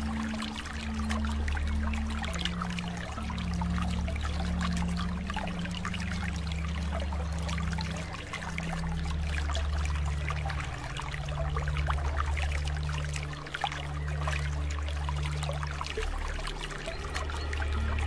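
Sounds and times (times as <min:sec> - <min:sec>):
low hum: 0:00.0 - 0:18.0
water trickling and bubbling: 0:00.0 - 0:18.0.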